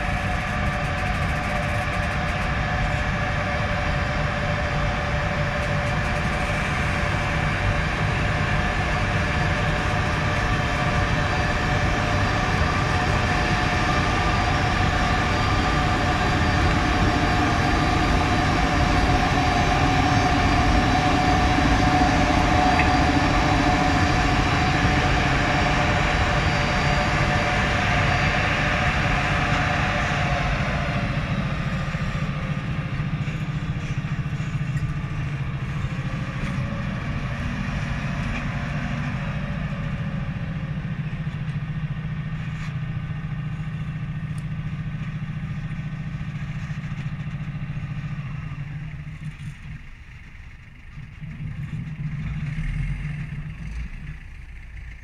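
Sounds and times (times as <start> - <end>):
electric locomotive whine: 0.0 - 55.0
freight train rumble: 0.0 - 55.0.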